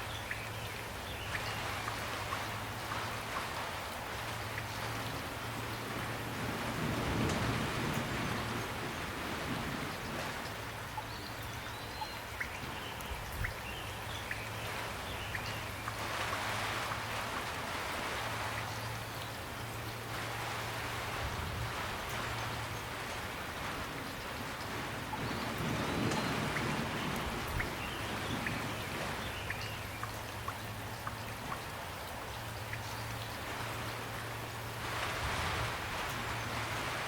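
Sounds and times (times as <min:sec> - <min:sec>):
raindrops ticking close by: 0:00.0 - 0:37.0
steady rain: 0:00.0 - 0:37.0.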